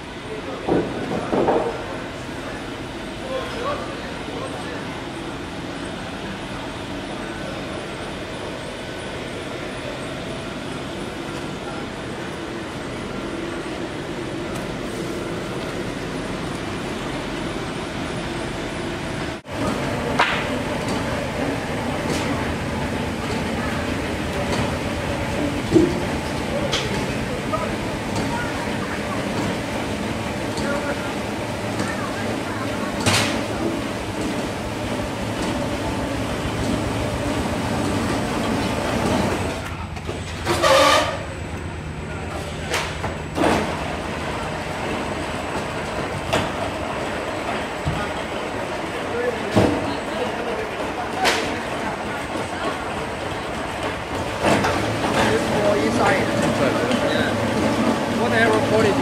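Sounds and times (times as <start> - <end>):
mill machinery rumbling: 0.0 - 59.0.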